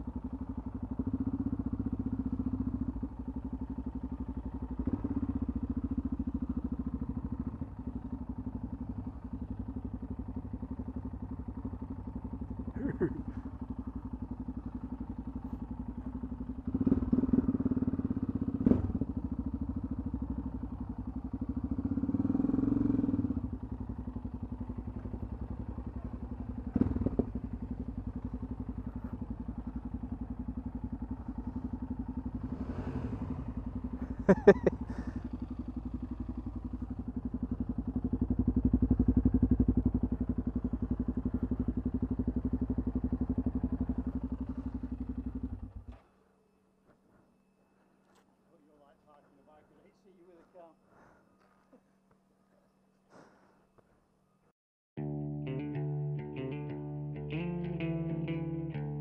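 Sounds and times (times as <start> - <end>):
motorcycle engine revving: 0.0 - 46.1, 55.0 - 59.0
motorcycle engine idling: 0.0 - 59.0.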